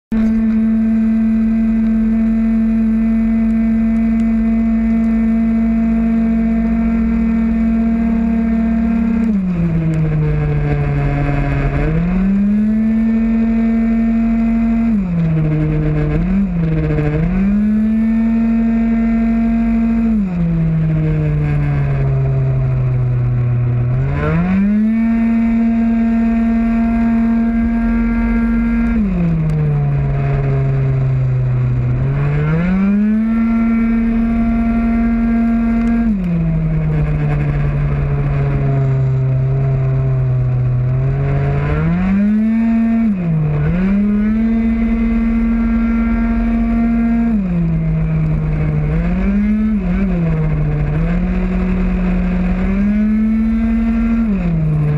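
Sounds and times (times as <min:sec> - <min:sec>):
scooter engine at full throttle: 0:00.1 - 0:54.9.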